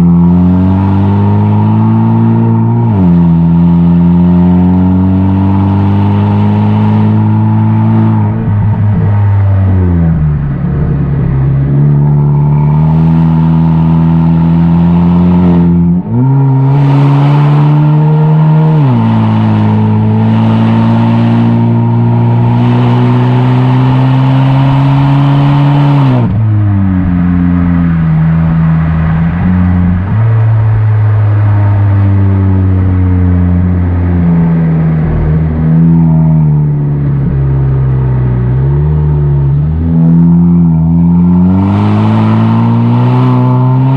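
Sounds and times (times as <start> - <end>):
car exhaust: 0.0 - 43.9.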